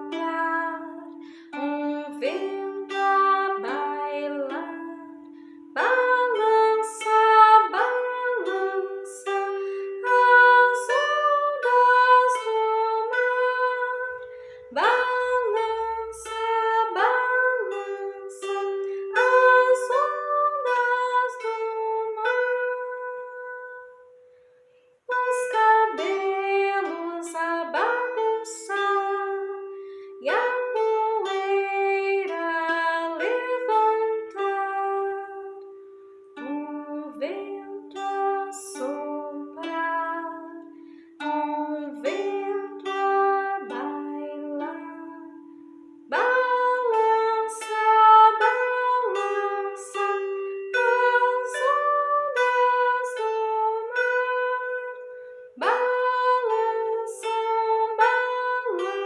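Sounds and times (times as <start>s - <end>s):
plucked kantele melody: 0.0s - 59.0s.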